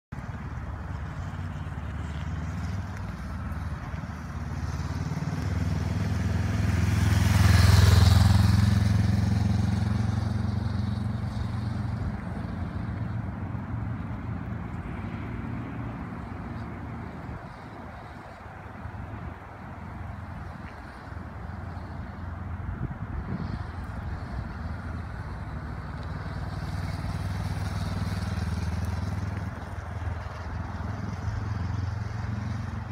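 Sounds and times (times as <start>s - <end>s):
motorcycle passing by: 0.2s - 32.9s.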